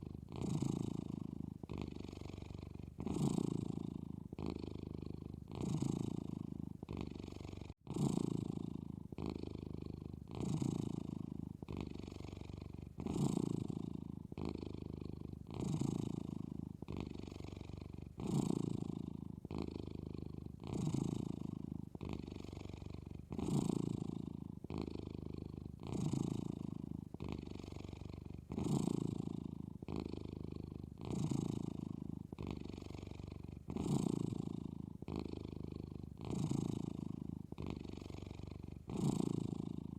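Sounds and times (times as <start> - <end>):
cat snoring: 0.0 - 39.9.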